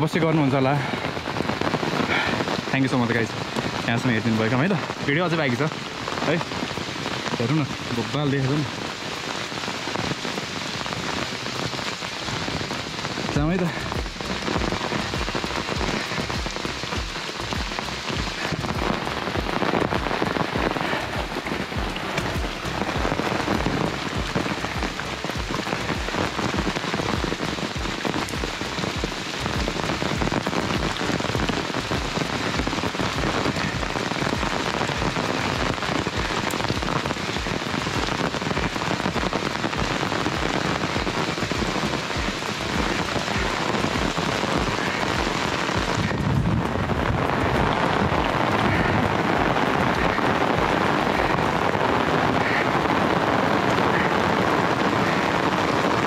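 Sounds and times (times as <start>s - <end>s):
heavy rain on umbrella: 0.0s - 56.0s.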